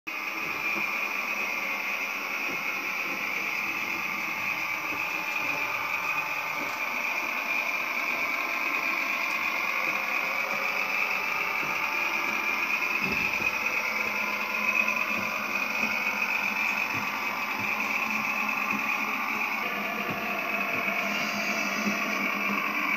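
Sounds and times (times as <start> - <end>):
diesel railcar engine sound: 0.1 - 22.9
model train motor and wheels: 0.1 - 22.9.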